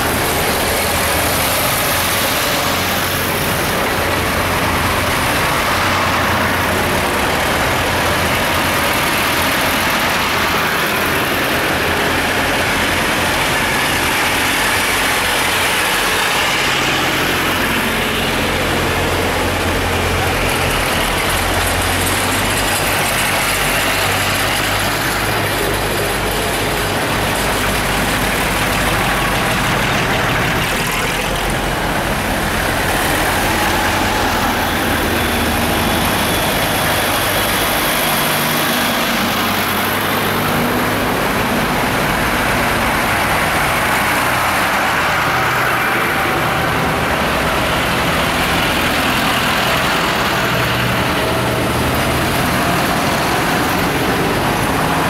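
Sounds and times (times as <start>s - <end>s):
tractors driving past: 0.0s - 55.0s.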